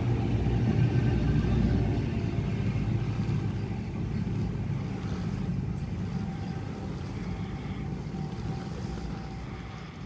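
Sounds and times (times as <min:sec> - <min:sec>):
train rumble pulling away: 0:00.0 - 0:10.0.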